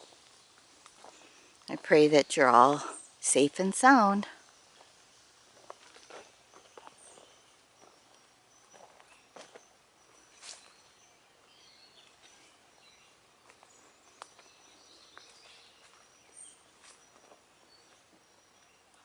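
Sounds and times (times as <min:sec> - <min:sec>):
distant birds chirping: 0:00.0 - 0:19.0.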